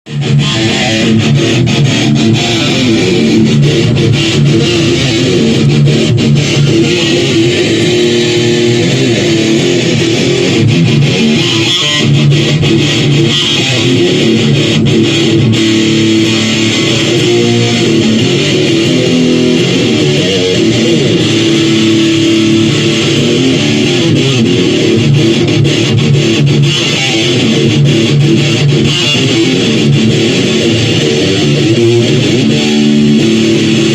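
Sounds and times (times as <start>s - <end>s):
electric guitar through amplifier: 0.1s - 33.9s.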